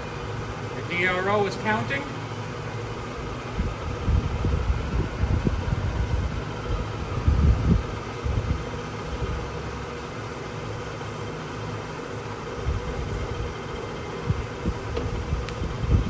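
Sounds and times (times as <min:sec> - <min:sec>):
lathe humming with faint whine: 0:00.0 - 0:16.0.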